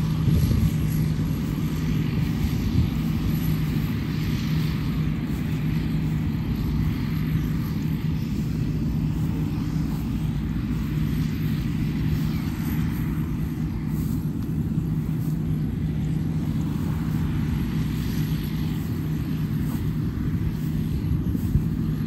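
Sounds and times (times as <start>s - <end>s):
harvester engines droning: 0.0s - 22.0s.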